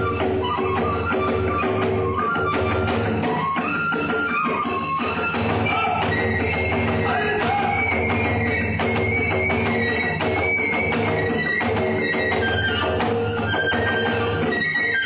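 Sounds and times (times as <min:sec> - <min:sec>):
high bamboo flute melody: 0:00.0 - 0:15.0.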